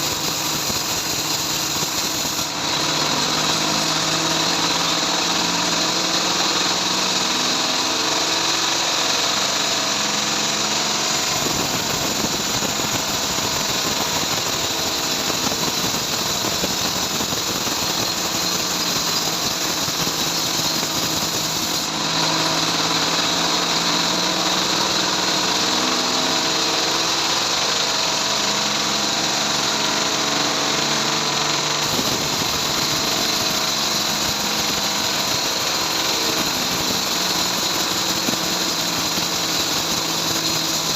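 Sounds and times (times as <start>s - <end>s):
bandsaw mill sawing wood: 0.0s - 40.9s.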